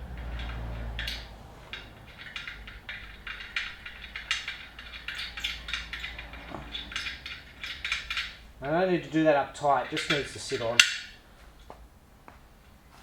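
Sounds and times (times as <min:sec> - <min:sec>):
small metal clicks and scraping: 0:00.0 - 0:11.8.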